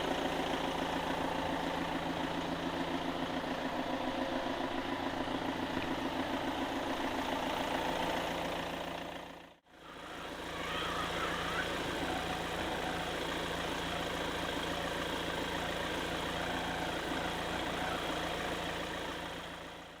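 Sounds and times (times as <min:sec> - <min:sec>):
forklift diesel engine running: 0:00.0 - 0:20.0.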